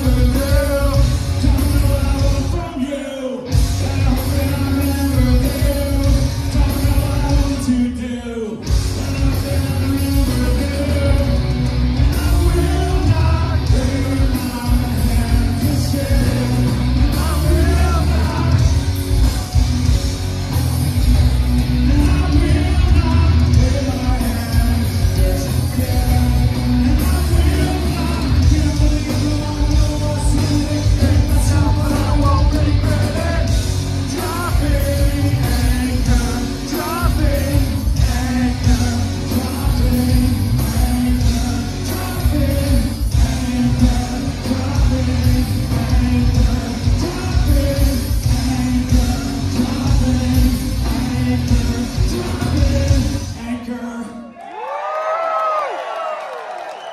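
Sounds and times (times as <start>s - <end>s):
live rock band playing: 0.0s - 54.1s
lead singer: 0.0s - 56.9s.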